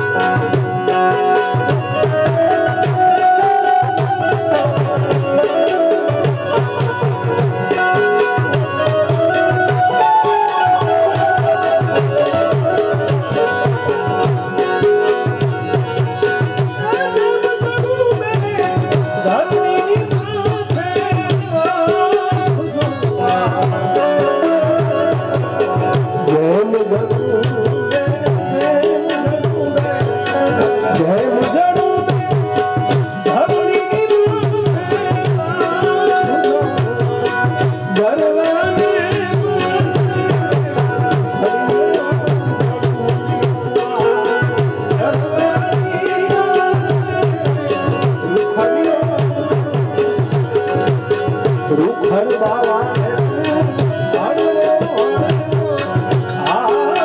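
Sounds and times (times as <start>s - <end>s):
hand drum rhythm: 0.0s - 57.0s
harmonium: 0.0s - 57.0s
man singing: 0.0s - 57.0s.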